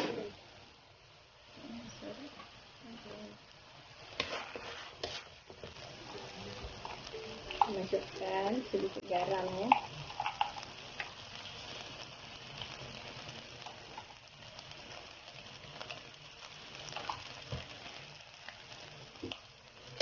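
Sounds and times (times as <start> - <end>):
rice sizzling in a pan: 0.0 - 20.0.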